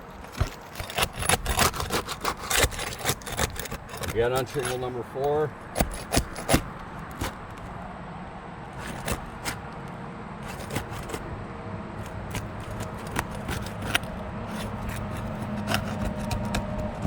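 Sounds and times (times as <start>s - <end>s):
roof shingles being pried up: 0.0s - 7.9s, 8.6s - 11.4s, 12.0s - 17.0s.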